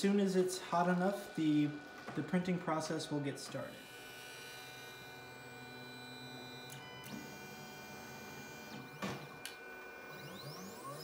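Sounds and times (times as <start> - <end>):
printer fans humming: 0.0 - 11.0.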